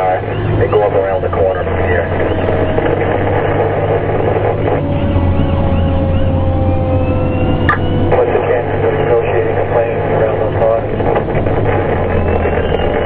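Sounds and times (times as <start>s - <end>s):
engine droning: 0.0s - 13.0s
fire engine siren yelping: 0.0s - 13.0s.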